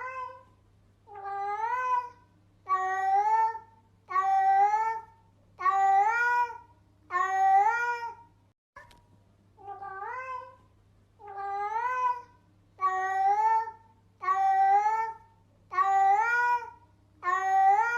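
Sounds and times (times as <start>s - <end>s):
cat meowing: 0.0s - 0.5s, 1.1s - 5.0s, 5.6s - 8.2s, 9.6s - 10.6s, 11.2s - 17.9s.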